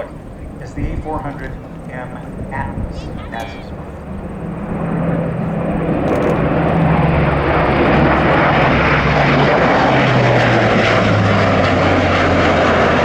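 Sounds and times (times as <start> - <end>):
turboprop aircraft flying past: 0.0 - 13.0.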